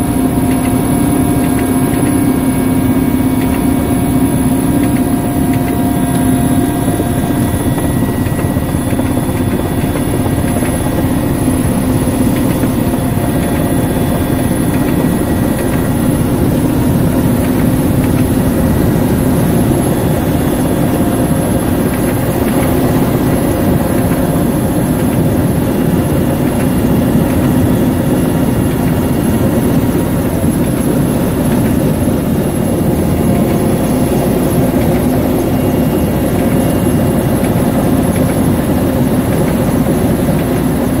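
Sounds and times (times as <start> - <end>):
helicopter engines and rotor drone: 0.0 - 41.0.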